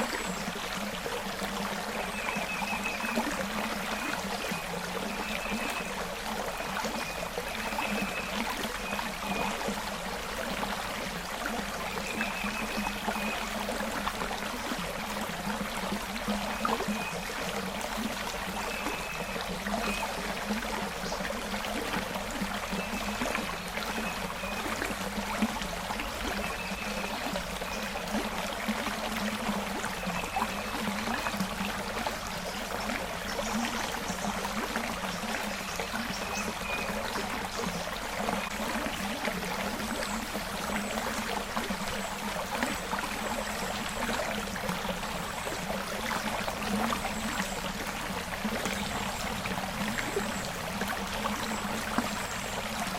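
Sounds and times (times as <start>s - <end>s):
creek water flowing: 0.0s - 52.9s.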